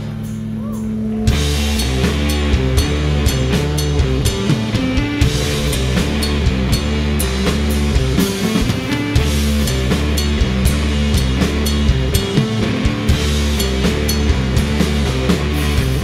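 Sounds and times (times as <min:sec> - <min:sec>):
drum kit with cymbal hits: 0:00.0 - 0:16.0
electric guitar sustained notes: 0:00.0 - 0:16.0.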